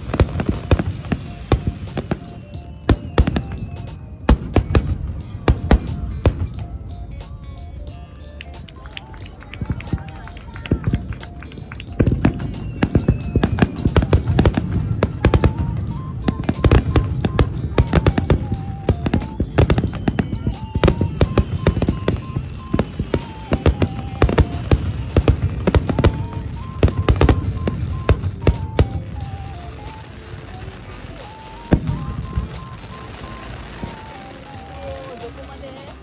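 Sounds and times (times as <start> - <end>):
fireworks bangs and crackles: 0.0 - 36.0
music with simple melody: 0.0 - 36.0.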